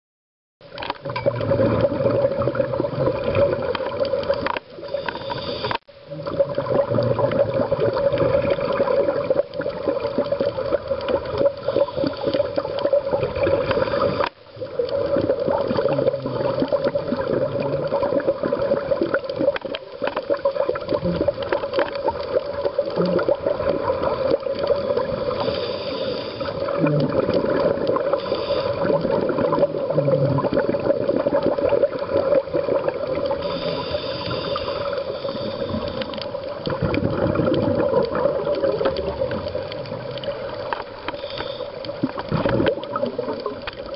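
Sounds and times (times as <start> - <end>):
underwater water noise: 0.6 - 43.9.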